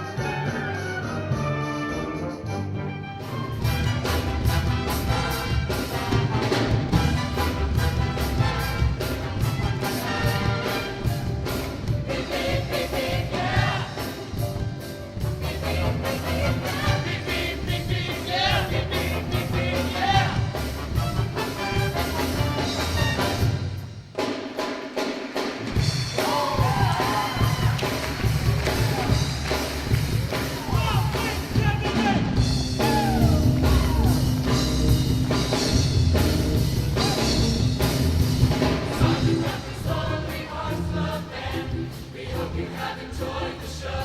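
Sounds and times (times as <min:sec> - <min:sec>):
choir singing with accompaniment: 0:03.3 - 0:23.8, 0:26.1 - 0:44.0.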